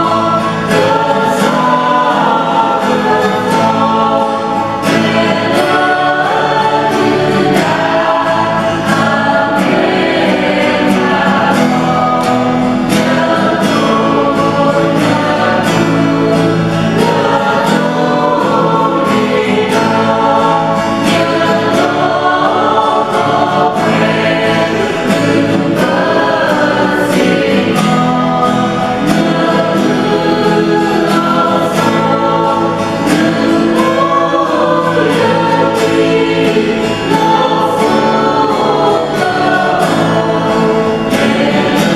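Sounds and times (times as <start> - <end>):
choir singing sacred music: 0.0 - 41.9.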